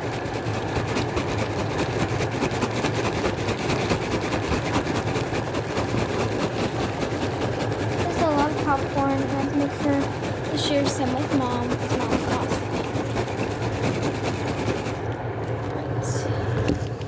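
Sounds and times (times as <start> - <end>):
popcorn rattling: 0.0 - 15.8
popcorn machine motor hum: 0.0 - 17.0.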